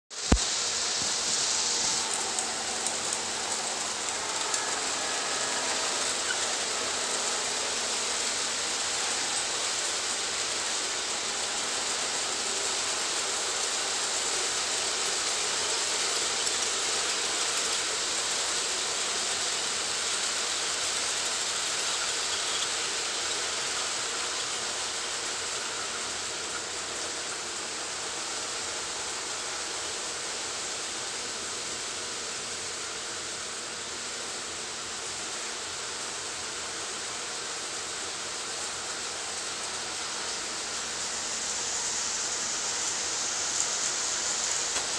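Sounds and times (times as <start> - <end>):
model train wheels on rail: 0.1 - 44.9.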